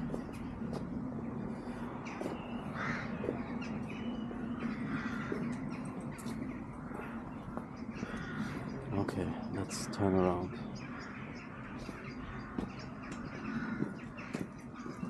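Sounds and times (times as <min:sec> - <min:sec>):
birds harsh crow-like calls: 0:00.0 - 0:15.0
steady low hum: 0:00.0 - 0:15.0.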